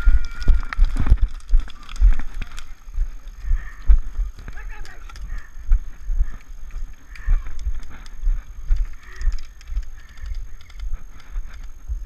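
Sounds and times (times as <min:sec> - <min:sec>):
low thumps of footsteps: 0:00.0 - 0:12.0.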